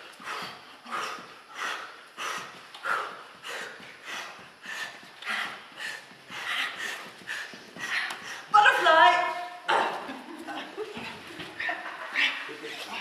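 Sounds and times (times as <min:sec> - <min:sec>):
forceful rhythmic breathing: 0:00.0 - 0:13.0.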